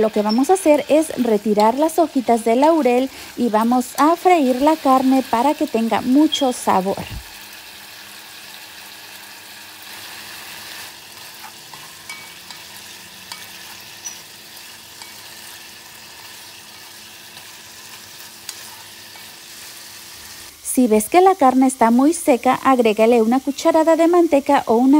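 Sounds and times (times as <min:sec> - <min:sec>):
meat sizzling in a pan: 0:00.0 - 0:24.9.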